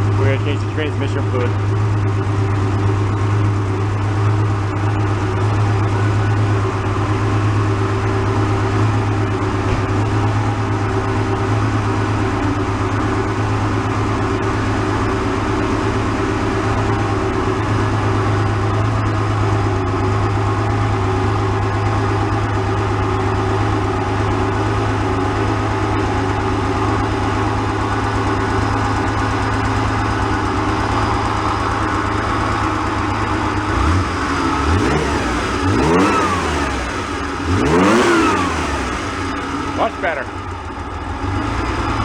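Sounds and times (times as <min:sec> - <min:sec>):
car engine running and revving: 0:00.0 - 0:42.0.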